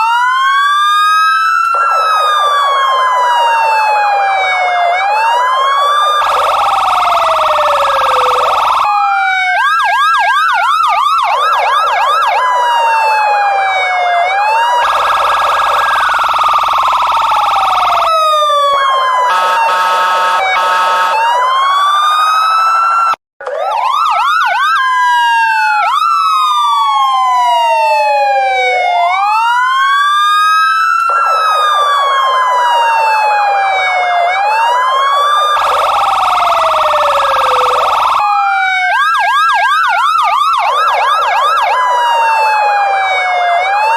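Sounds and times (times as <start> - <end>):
police siren wail: 0.0 - 43.9
police siren yelp: 0.0 - 43.9.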